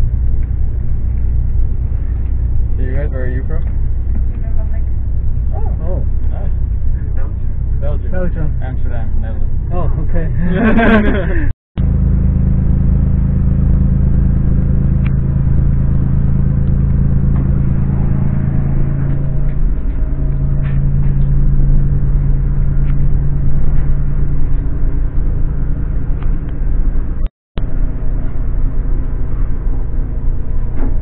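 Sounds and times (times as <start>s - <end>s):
train running rumble and hum: 0.0s - 31.0s.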